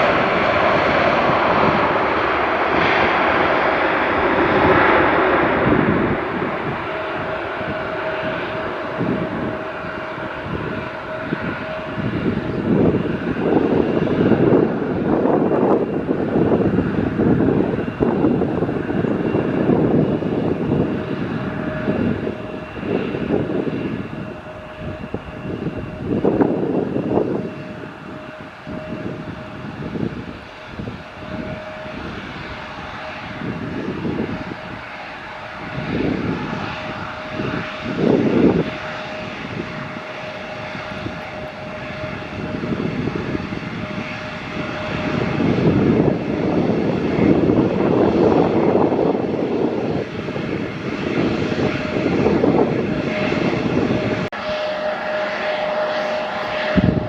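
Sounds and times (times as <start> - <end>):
airliner engine whine: 0.0 - 57.0
wind rumbling on microphone: 0.0 - 57.0.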